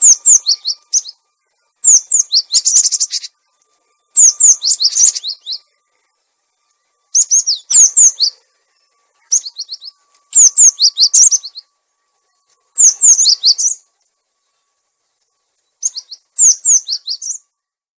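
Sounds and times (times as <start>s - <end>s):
bird whistling song: 0.0s - 14.6s, 15.5s - 17.6s.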